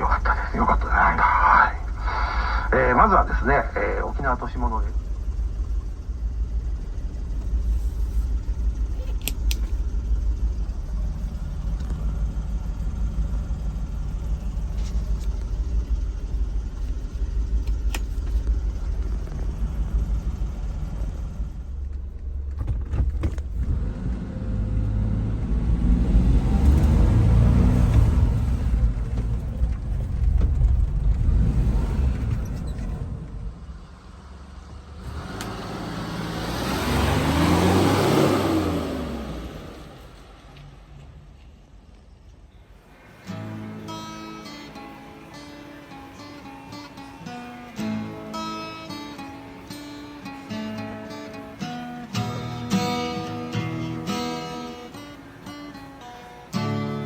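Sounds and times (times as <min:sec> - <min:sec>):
road noise: 0:00.0 - 0:57.0
small truck engine rumble: 0:00.0 - 0:57.0.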